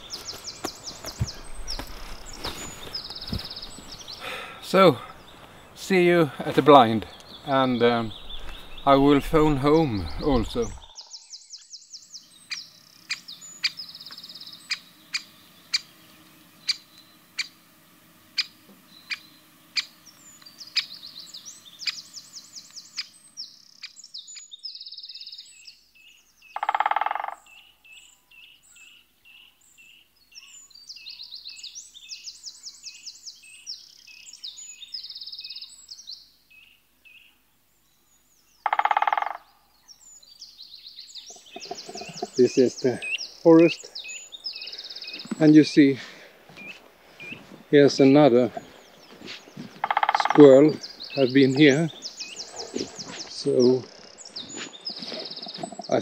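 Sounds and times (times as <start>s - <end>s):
songbirds singing and trilling: 0.0s - 56.0s.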